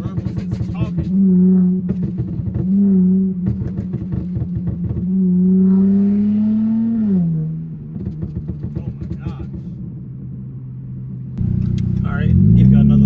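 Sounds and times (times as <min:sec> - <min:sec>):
exhaust burble: 0:00.0 - 0:10.0, 0:10.8 - 0:13.0
car engine revving: 0:00.0 - 0:13.0.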